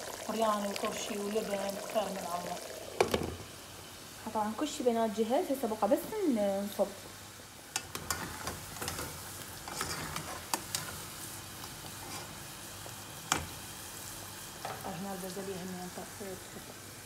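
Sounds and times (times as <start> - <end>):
potatoes sizzling in oil: 0.0 - 17.0.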